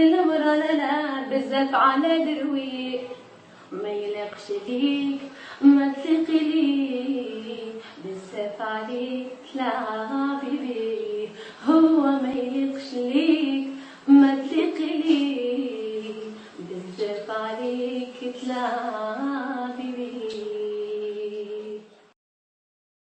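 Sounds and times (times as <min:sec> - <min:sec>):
woman singing slow melody: 0:00.0 - 0:22.1.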